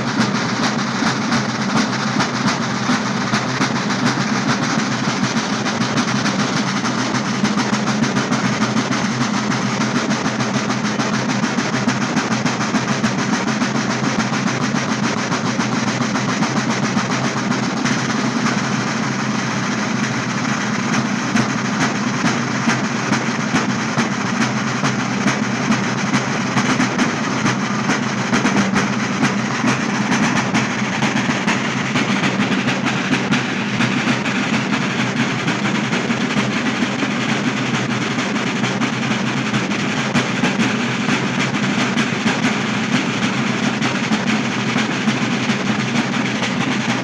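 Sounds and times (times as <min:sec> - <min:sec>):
side drums beaten with sticks: 0:00.0 - 0:47.0.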